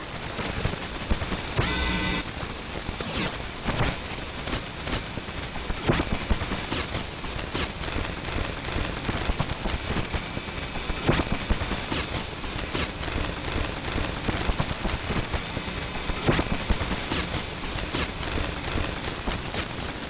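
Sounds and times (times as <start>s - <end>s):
crackling hiss: 0.0s - 20.0s.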